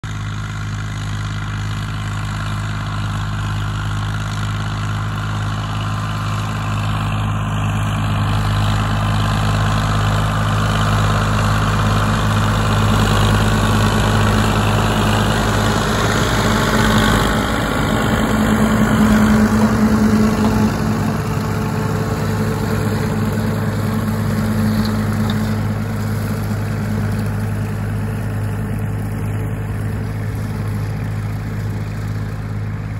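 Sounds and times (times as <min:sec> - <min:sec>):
rotary mower cutting long grass: 0:00.0 - 0:32.9
tractor diesel engine under load: 0:00.0 - 0:32.9.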